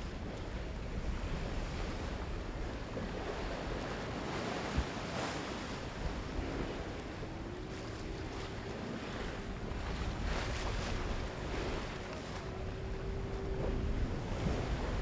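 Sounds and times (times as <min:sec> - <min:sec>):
waves splashing around boat: 0:00.0 - 0:15.0
wind buffeting microphone: 0:00.0 - 0:15.0.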